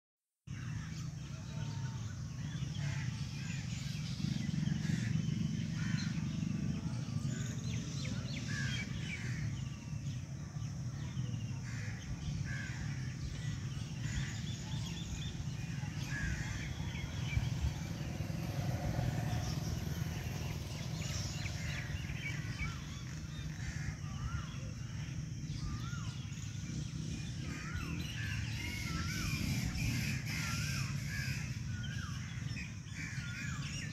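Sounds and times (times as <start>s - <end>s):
birds chirping: 0.5s - 33.9s
steady low rumble: 2.0s - 33.9s.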